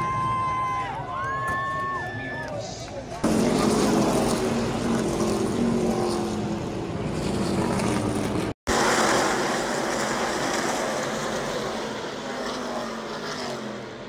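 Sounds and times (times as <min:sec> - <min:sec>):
race cars passing at speed: 0:02.6 - 0:14.0.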